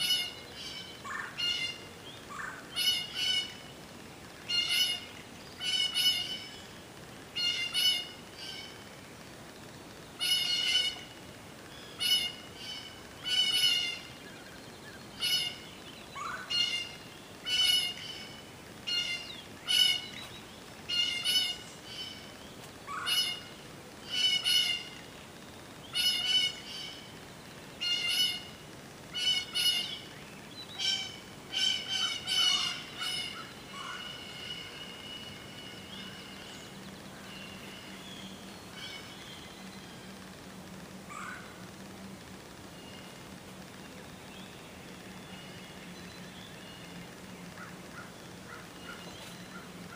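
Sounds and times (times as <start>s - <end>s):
bird harsh calls: 0.0s - 3.7s, 4.4s - 8.8s, 10.1s - 25.1s, 25.8s - 27.2s, 27.8s - 40.2s, 41.1s - 41.6s, 44.4s - 49.9s.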